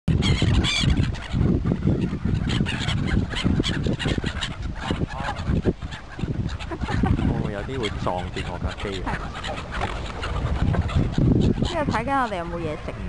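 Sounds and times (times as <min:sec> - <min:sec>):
pond birds calling: 0:00.1 - 0:13.0.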